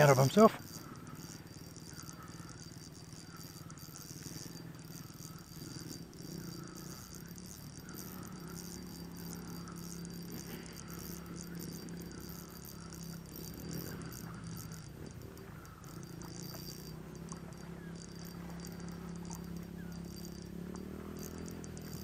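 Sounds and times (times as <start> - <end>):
fishing reel gears rattling: 0.0 - 22.0
motorbike engine drone: 0.0 - 22.0.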